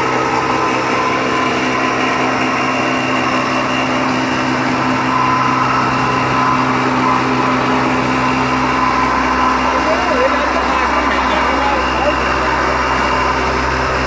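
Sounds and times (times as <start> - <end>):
milling machine motor hum: 0.0 - 14.0.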